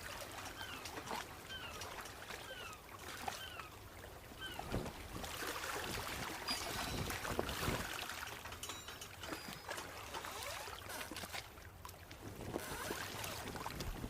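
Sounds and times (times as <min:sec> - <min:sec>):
water lapping and sloshing: 0:00.0 - 0:14.0.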